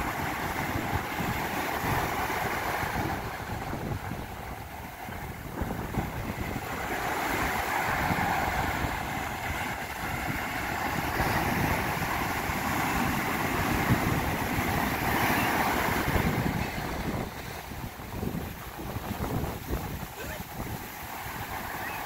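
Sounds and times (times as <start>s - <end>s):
ocean surf breaking on rocks: 0.0s - 22.0s.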